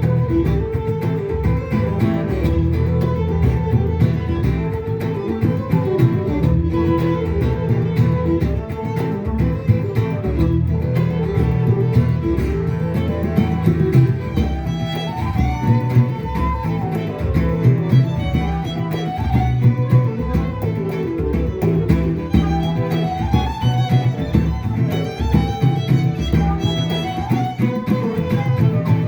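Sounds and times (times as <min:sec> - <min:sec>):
fiddle melody: 0:00.0 - 0:29.0
guitar accompaniment: 0:00.0 - 0:29.0.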